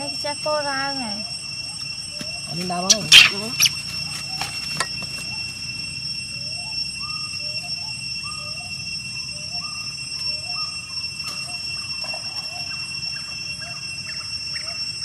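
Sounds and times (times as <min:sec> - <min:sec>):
high-pitched drone: 0:00.0 - 0:15.0.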